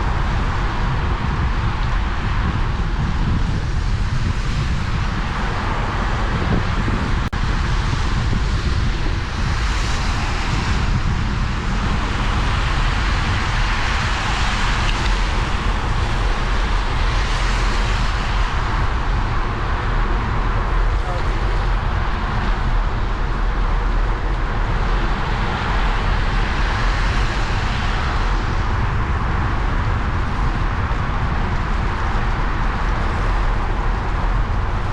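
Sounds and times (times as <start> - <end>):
wind on microphone: 0.0 - 34.9.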